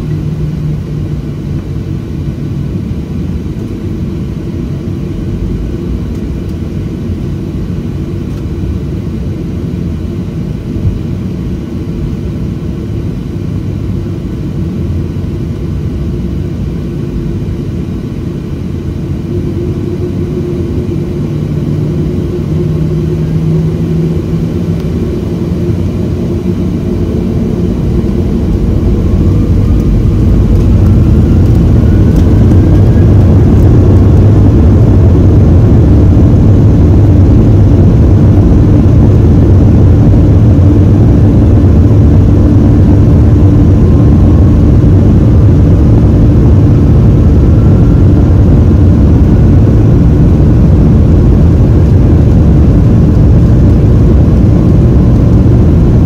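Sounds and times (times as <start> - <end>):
jet engine whine: 0.0 - 56.0
jet engines rumbling in cabin: 0.0 - 56.0.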